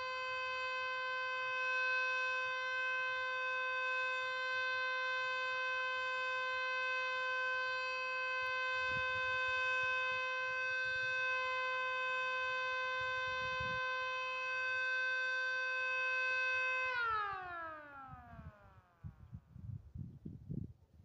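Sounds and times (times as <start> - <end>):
warning siren steady tone: 0.0 - 19.6.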